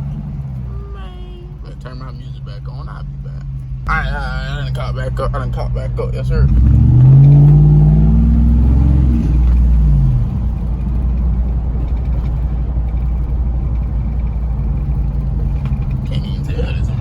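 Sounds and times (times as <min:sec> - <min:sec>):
car engine accelerating: 0:00.0 - 0:17.0
road rumble: 0:00.0 - 0:17.0.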